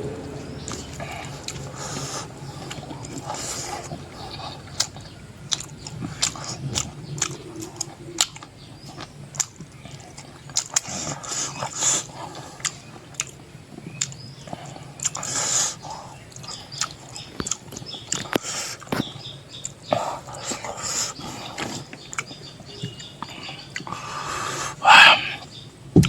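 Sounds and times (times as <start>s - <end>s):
person chewing food: 0.0s - 26.0s
sharp chewing clicks and smacks: 0.0s - 26.0s.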